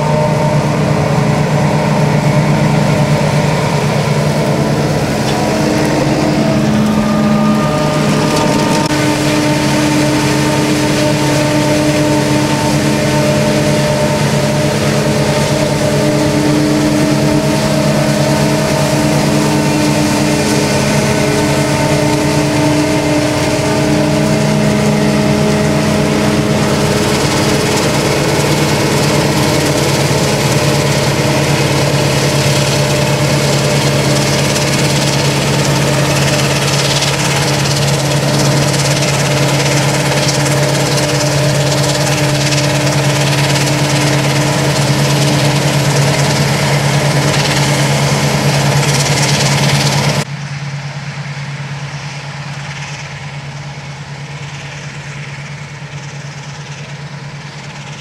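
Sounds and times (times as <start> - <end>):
harvester machine drone: 0.0 - 58.0.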